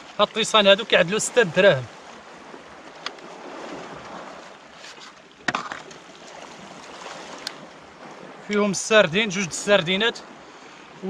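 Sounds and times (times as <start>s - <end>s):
sea washing against shore: 0.0s - 11.0s.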